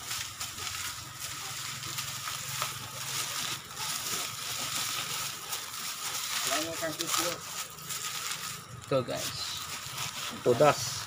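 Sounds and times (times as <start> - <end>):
leaves rustling and crunching: 0.0 - 11.0.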